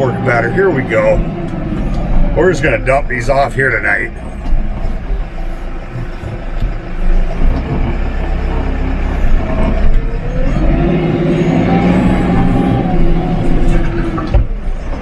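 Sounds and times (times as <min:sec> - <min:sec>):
hydraulic whine: 0:00.0 - 0:15.0
tractor engine under load: 0:00.0 - 0:15.0.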